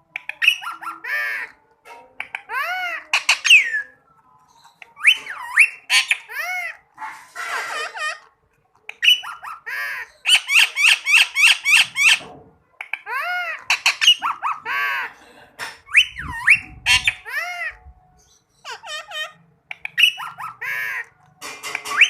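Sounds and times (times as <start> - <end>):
parakeet calling: 0.1 - 1.6, 2.2 - 4.0, 4.7 - 8.2, 8.9 - 12.2, 12.9 - 15.2, 15.9 - 22.0.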